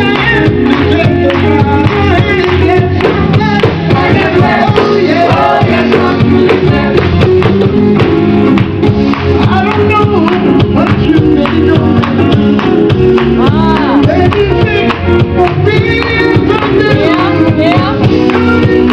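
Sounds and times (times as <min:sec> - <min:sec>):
gospel vocal group singing: 0:00.0 - 0:08.1, 0:09.4 - 0:18.9
band with bass and beat: 0:00.0 - 0:18.9.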